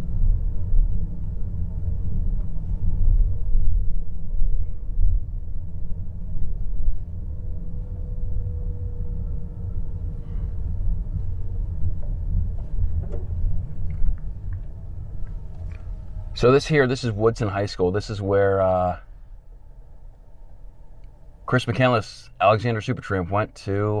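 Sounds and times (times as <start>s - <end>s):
car engine and road noise: 0.0s - 24.0s
faint held hum: 0.0s - 24.0s.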